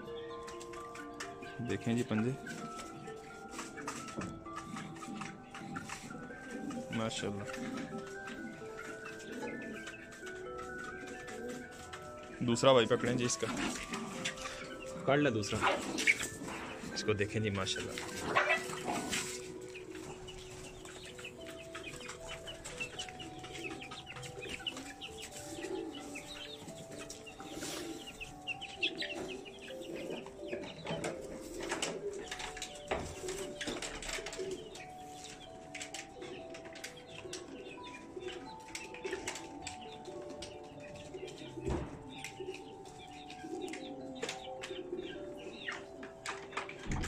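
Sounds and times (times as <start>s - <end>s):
pigeons cooing: 0.0s - 47.0s.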